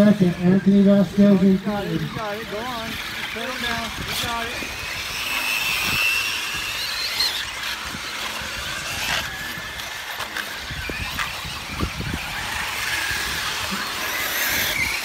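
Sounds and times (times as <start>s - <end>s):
rc truck motors whining: 0.0s - 15.0s.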